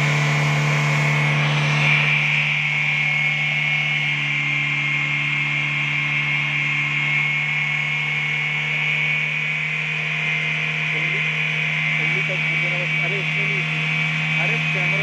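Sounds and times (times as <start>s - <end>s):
car idling hum: 0.0s - 15.0s.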